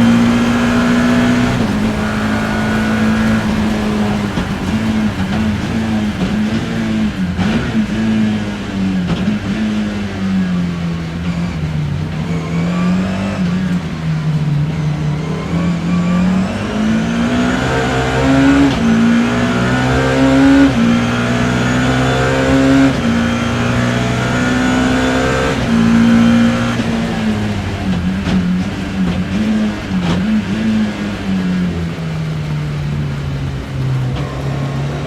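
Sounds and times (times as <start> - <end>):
race car engine revving through gears: 0.0 - 35.0.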